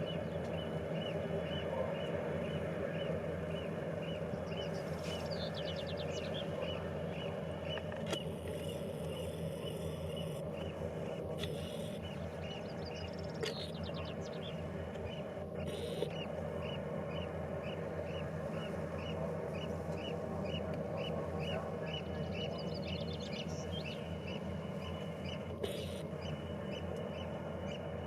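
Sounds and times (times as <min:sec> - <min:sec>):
ferry engines rumbling: 0:00.0 - 0:28.0.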